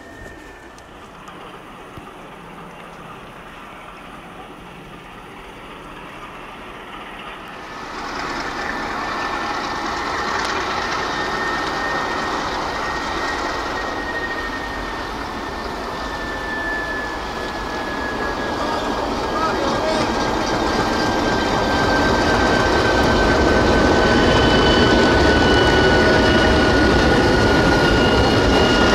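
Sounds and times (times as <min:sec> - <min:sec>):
diesel locomotives running: 0:00.0 - 0:28.9
thin high whine: 0:00.0 - 0:28.9.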